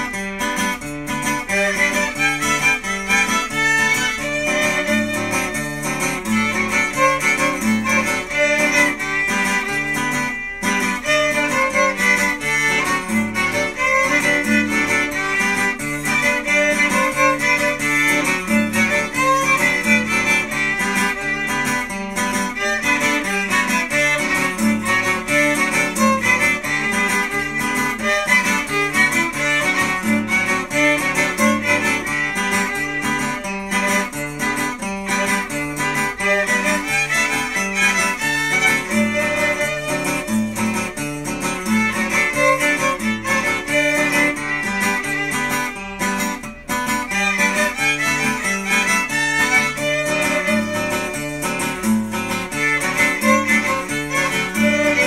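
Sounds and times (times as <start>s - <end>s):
acoustic guitar accompaniment: 0.0s - 55.0s
violin melody: 0.0s - 55.0s.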